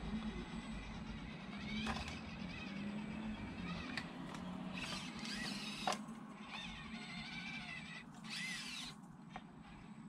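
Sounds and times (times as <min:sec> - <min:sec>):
toy car electric motor whining: 0:00.0 - 0:09.0.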